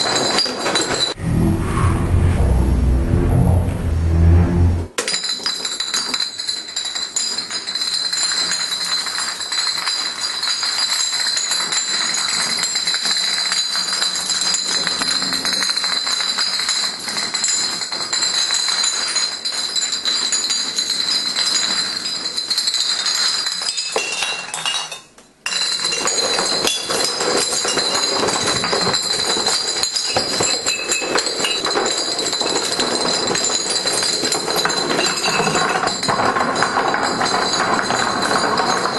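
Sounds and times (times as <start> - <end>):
glass bottles clinking and rattling: 0.0 - 1.2, 5.0 - 38.9.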